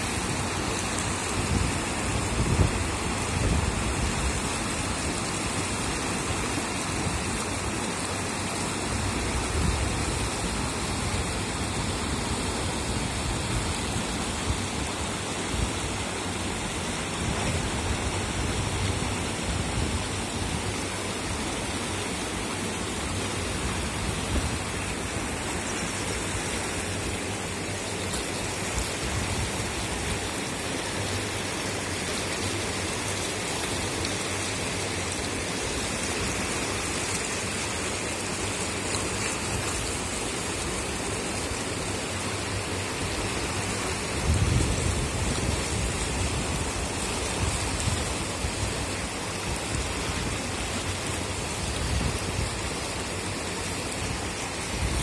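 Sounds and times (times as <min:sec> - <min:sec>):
water rushing in rapids: 0:00.0 - 0:55.0.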